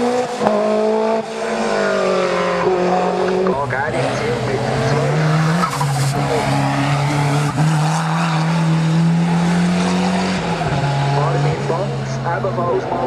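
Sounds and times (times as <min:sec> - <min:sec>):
race car engine pulling hard: 0:00.0 - 0:13.0.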